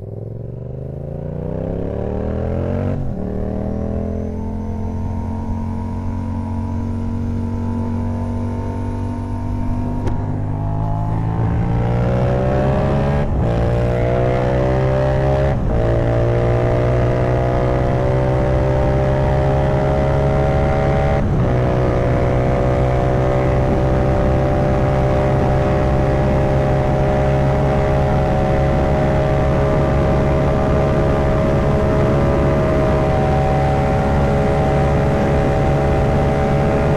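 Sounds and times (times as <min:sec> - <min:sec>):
motorcycle engine accelerating: 0:00.0 - 0:36.9.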